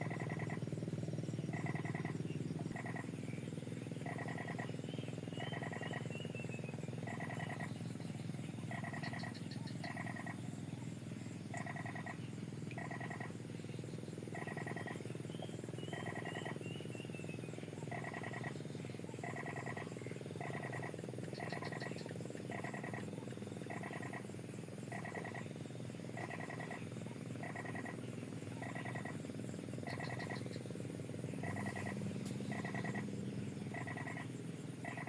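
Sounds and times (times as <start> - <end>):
frogs croaking: 0.0 - 35.0
steady low hum: 0.0 - 35.0.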